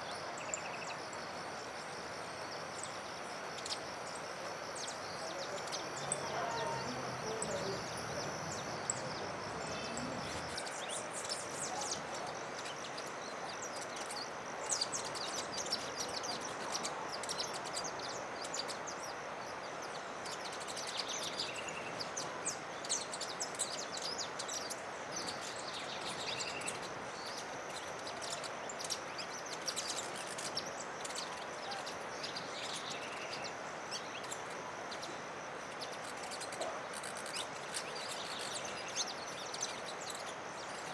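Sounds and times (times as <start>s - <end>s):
background hiss: 0.0s - 40.9s
songbirds chirping: 0.0s - 40.9s.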